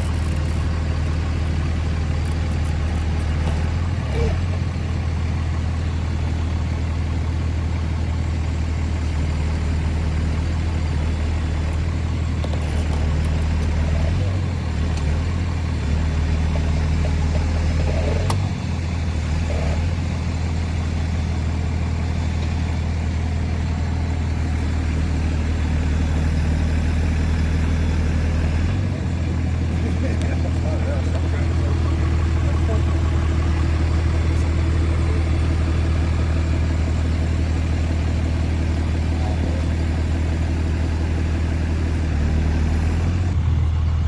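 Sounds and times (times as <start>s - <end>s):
truck engine idling: 0.0s - 44.0s.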